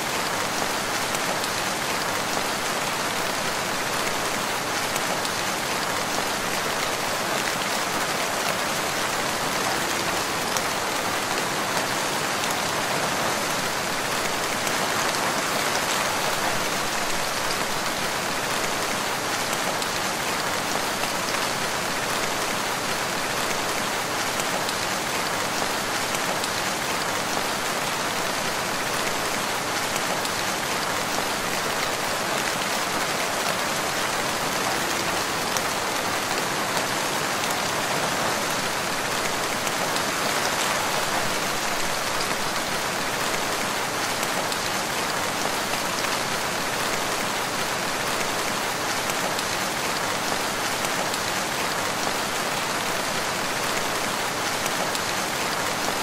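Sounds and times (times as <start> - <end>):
rain falling in a forest: 0.0 - 56.0.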